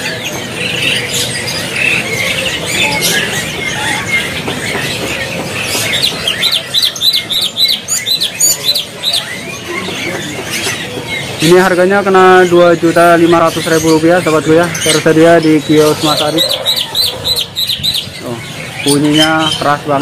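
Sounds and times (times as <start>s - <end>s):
bird singing high chirps: 0.0s - 20.0s.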